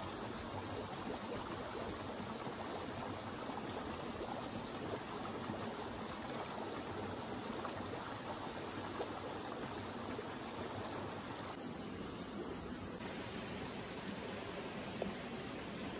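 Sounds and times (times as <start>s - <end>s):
creek flowing over stones: 0.0s - 11.6s, 12.3s - 15.9s.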